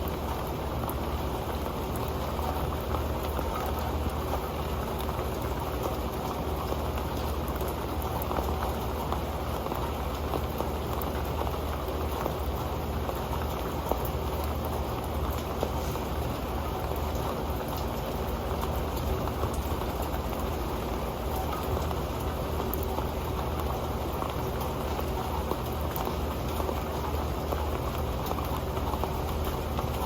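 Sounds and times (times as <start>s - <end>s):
rain falling on a metal pan: 0.0s - 30.0s.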